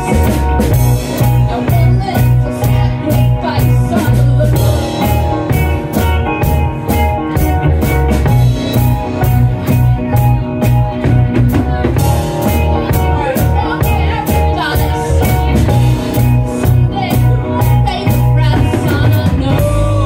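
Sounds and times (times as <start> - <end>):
bass line: 0.0 - 20.0
drum kit beat: 0.0 - 20.0
electric keyboard: 0.0 - 20.0
live band playing: 0.0 - 20.0.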